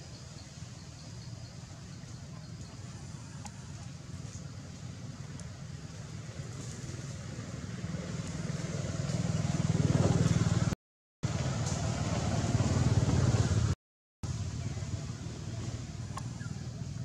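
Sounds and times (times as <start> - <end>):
engine pulsing drone: 0.0 - 17.0.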